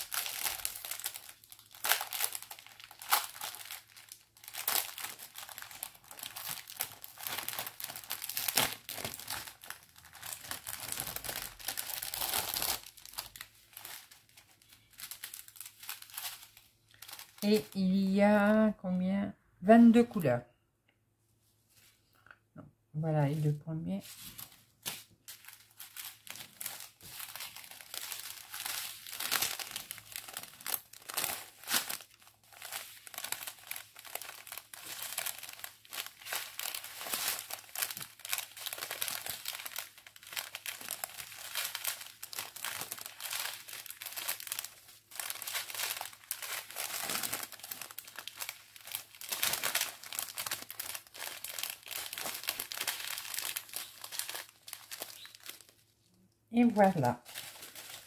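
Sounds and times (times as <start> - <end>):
plastic bags crinkling: 0.0 - 18.1, 23.4 - 56.1, 56.7 - 58.0.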